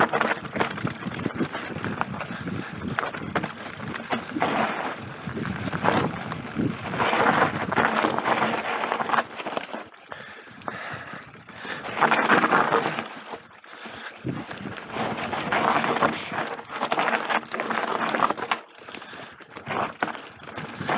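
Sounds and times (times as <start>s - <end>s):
bike rattling: 0.0s - 20.9s
bike tyres rolling over dirt: 0.0s - 20.9s.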